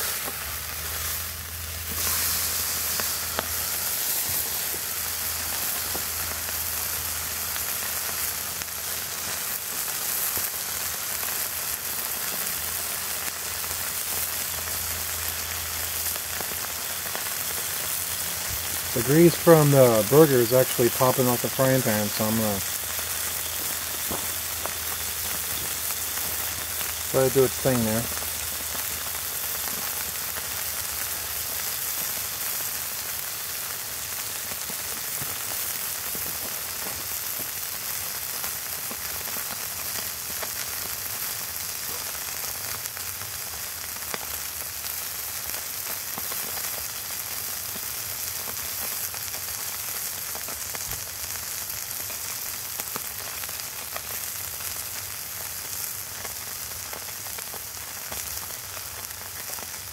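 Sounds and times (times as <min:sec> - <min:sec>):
grease popping: 0:00.0 - 0:59.9
patty sizzling in a frying pan: 0:00.0 - 0:59.9.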